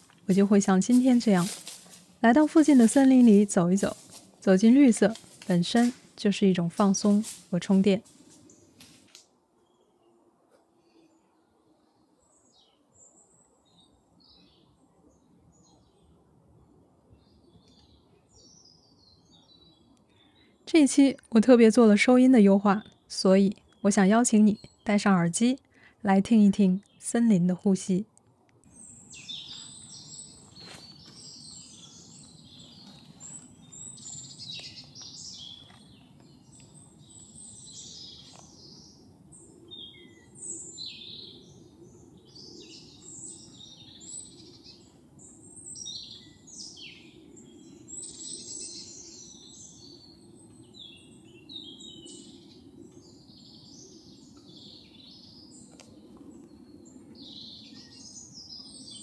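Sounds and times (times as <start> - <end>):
faint low background noise: 0.0 - 59.0
songbirds chirping: 0.0 - 59.0.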